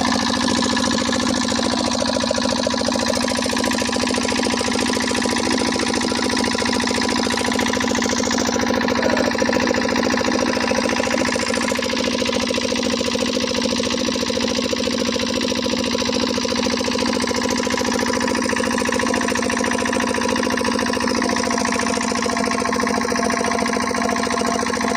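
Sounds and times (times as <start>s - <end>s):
diesel engine running steadily: 0.0s - 24.9s.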